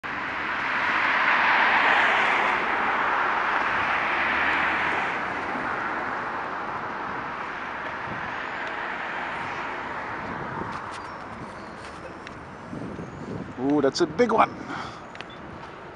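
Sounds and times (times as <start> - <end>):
vehicle passing: 0.1 - 13.6.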